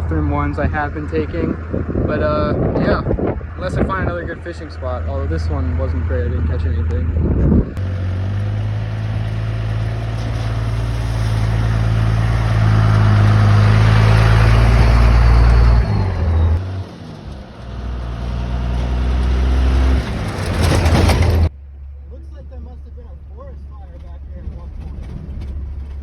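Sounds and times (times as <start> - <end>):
truck engine revving: 0.0 - 21.5
road and tyre noise: 0.0 - 26.0.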